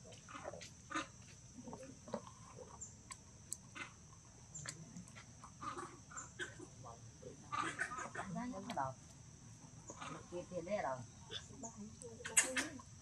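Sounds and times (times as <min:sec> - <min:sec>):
faint squeaks and ticks: 0:00.0 - 0:06.7, 0:07.5 - 0:12.9
dipping insect chirp: 0:00.0 - 0:13.0
insects droning: 0:00.0 - 0:13.0.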